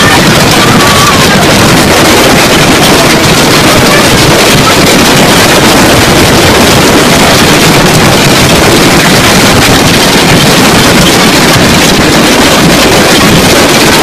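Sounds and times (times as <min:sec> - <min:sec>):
hail pelting the ground: 0:00.0 - 0:14.0
wind buffeting microphone: 0:00.0 - 0:14.0.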